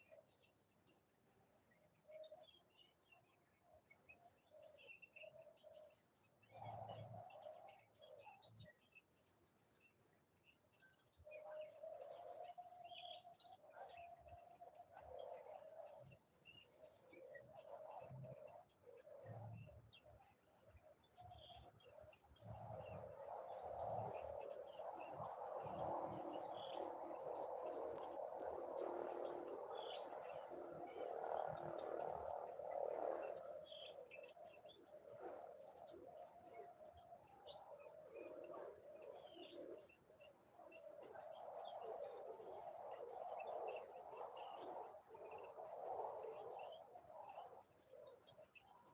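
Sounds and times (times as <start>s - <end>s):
low insect chorus: 0.0s - 48.9s
pulsing insect trill: 0.0s - 48.9s.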